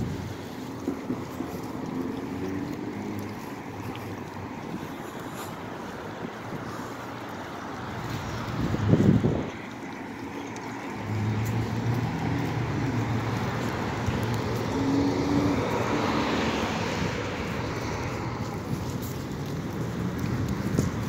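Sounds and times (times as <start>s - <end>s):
low traffic engine hum: 0.0s - 21.0s
vehicle passing: 0.0s - 21.0s.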